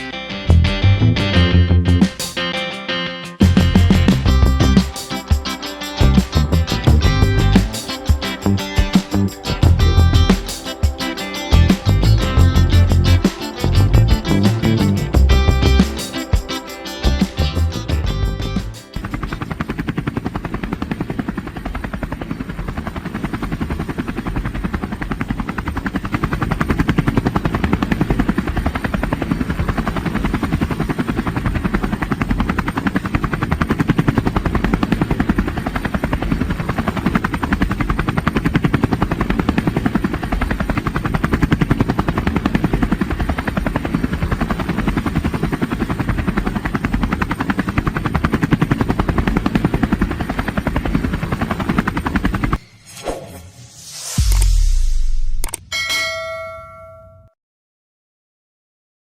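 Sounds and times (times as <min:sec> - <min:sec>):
helicopter engine noise: 0:00.0 - 0:55.6
helicopter rotor chop: 0:00.0 - 0:55.6.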